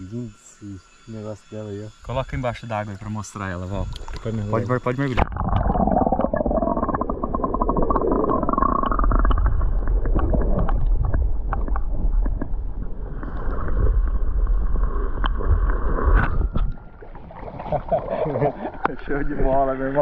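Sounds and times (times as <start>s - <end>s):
water sloshing underwater: 3.8s - 20.0s.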